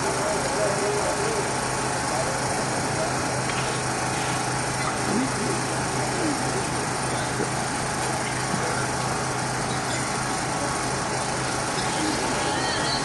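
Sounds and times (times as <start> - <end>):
faint murmuring voices: 0.0 - 13.0
low electrical hum: 0.0 - 13.0.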